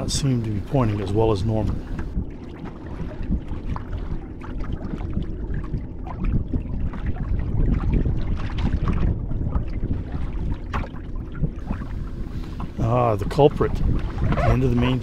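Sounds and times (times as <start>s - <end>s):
water slapping against hull: 0.0s - 15.0s
wind buffeting microphone: 0.0s - 15.0s.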